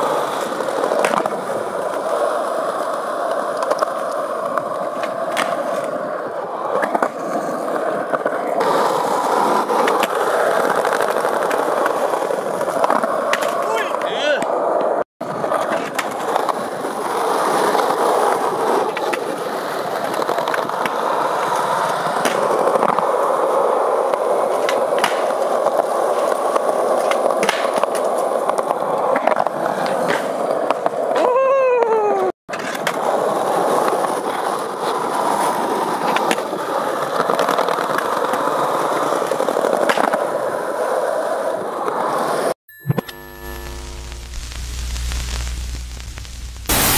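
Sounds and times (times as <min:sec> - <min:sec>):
skateboard wheels rolling on concrete: 0:00.0 - 0:46.9.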